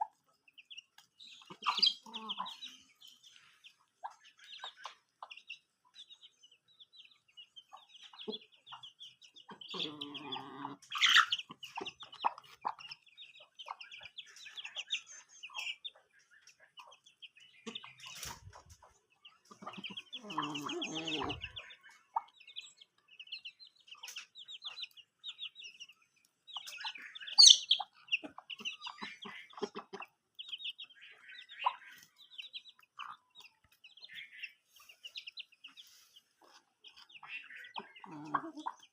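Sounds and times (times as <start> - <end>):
hen clucking: 0.0 - 6.3, 6.9 - 38.9
chicks peeping: 0.0 - 38.9.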